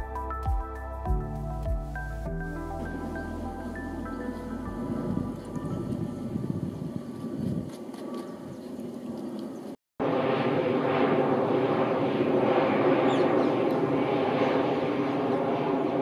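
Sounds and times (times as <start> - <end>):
jet airliner flying overhead: 2.2 - 16.0.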